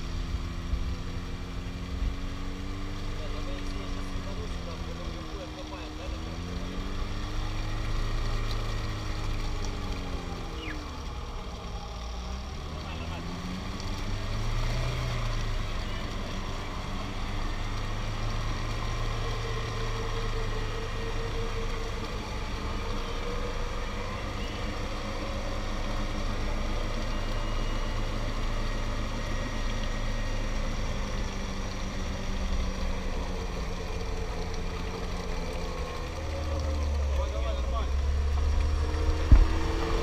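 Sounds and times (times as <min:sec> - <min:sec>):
car engine running at low revs: 0:00.0 - 0:40.0.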